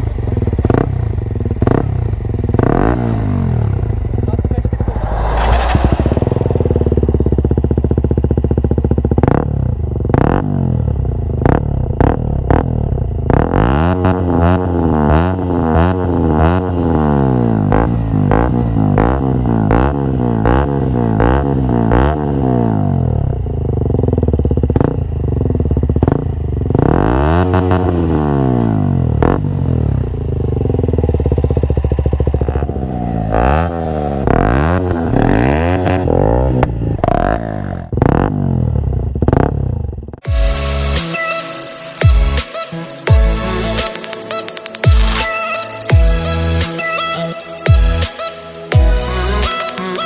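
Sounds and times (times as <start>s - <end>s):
motorcycle engine revving: 0.0s - 48.1s.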